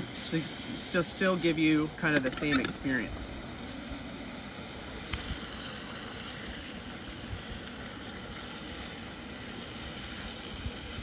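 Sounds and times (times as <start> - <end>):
ham sizzling in oil: 0.0 - 11.0.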